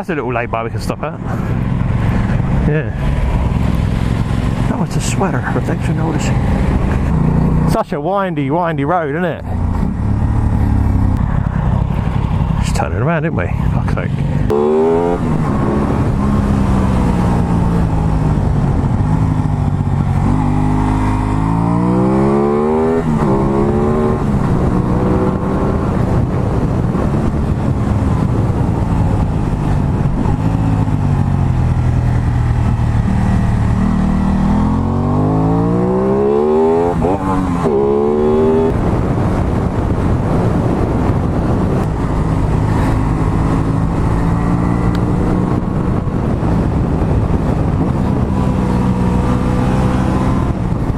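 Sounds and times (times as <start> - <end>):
wind rushing over microphone: 0.0 - 50.9
motorcycle engine revving: 1.2 - 7.8, 9.4 - 12.8, 13.6 - 50.9.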